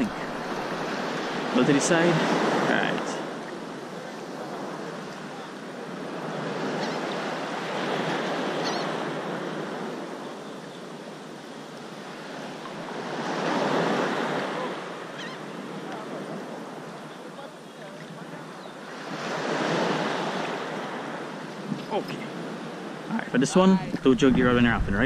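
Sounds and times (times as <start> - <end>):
small waves lapping: 0.0 - 24.4.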